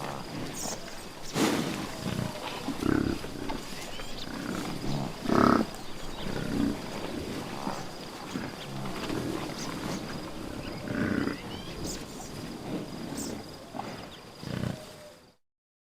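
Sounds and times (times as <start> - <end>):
buffalo grunting and snorting: 0.0 - 15.2.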